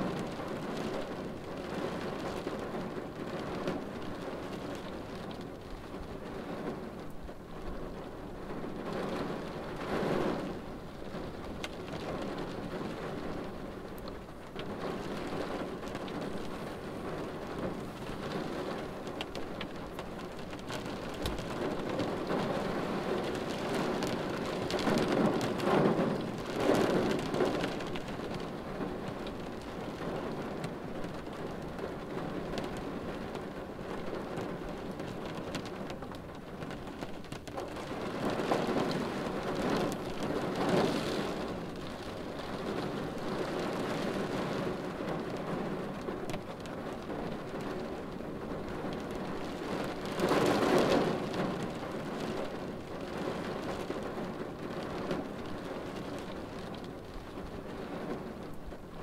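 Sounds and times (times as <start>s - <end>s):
rain on car windshield: 0.0s - 59.0s.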